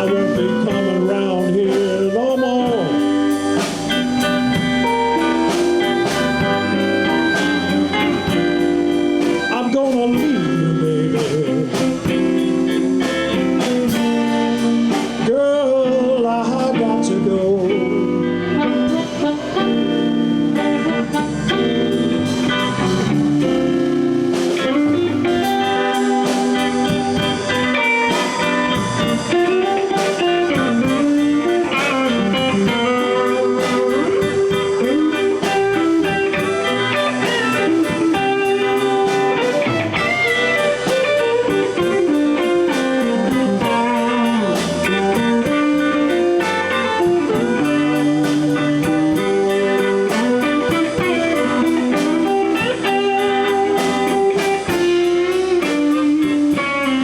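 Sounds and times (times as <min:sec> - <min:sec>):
electric guitar bending notes: 0:00.0 - 0:57.0
live blues band playing: 0:00.0 - 0:57.0.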